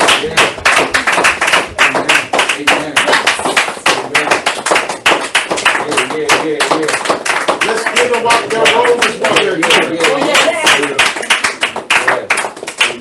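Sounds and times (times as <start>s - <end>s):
congregation clapping in rhythm: 0.0s - 13.0s.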